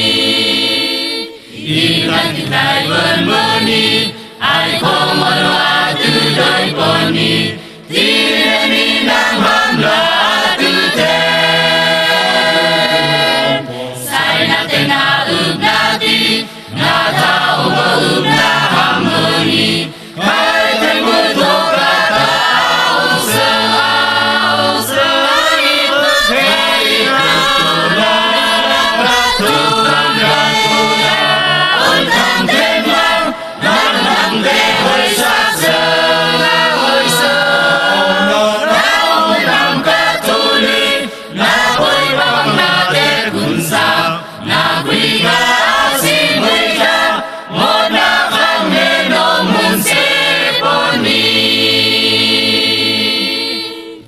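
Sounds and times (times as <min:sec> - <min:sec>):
choir singing in parts: 0:00.0 - 0:54.0.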